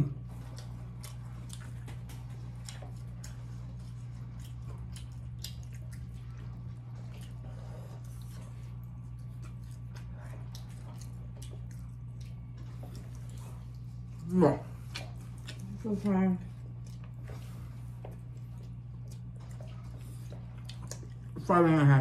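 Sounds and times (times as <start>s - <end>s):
people chewing and lip-smacking: 0.0s - 21.5s
steady low hum: 0.0s - 22.0s.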